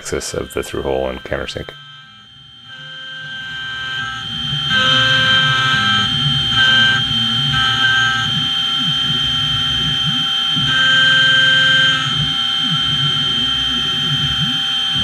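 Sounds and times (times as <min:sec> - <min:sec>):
metal cutting tone: 0:00.0 - 0:15.0
spindle high whine: 0:00.0 - 0:15.0
stepper motors gliding tones: 0:00.0 - 0:15.0.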